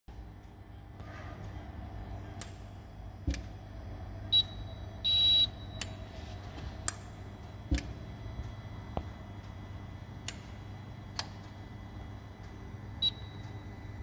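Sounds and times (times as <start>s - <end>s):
machine low hum: 0.1s - 14.0s.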